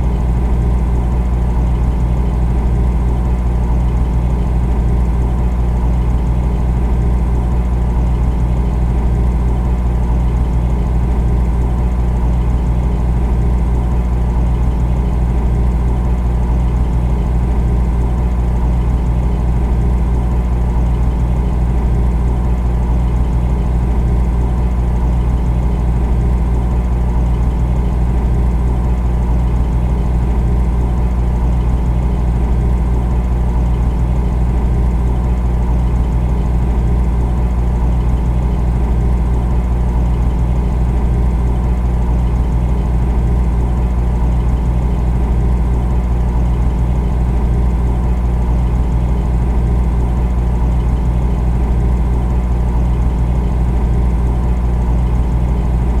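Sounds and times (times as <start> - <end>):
refrigerator hum: 0.0 - 56.0.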